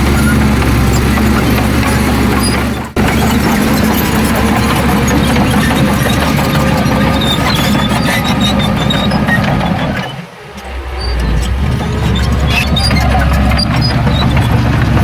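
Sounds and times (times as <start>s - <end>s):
heavy diesel machinery running: 0.0s - 15.0s
short high squeaks: 0.1s - 15.0s.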